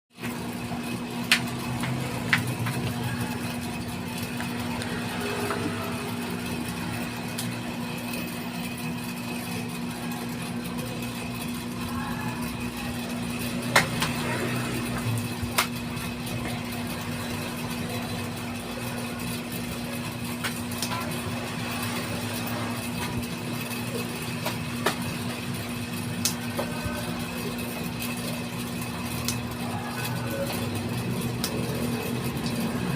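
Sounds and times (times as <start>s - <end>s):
small machine humming: 0.1s - 32.9s.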